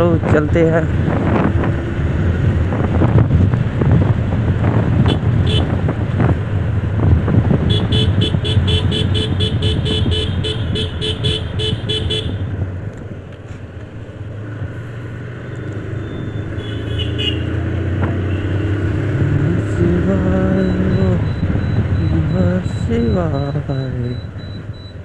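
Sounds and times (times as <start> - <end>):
motorcycle engine hum: 0.0 - 25.0
wind and road rush: 0.0 - 25.0.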